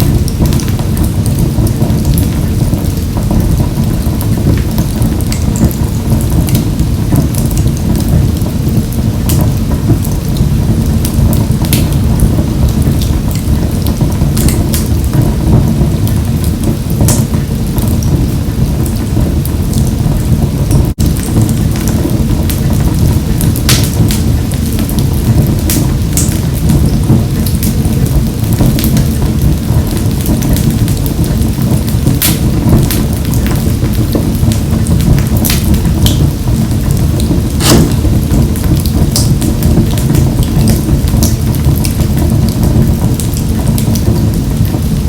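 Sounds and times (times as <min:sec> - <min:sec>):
fire crackles and pops: 0:00.0 - 0:45.0
wood fire rumbling in stove: 0:00.0 - 0:45.0.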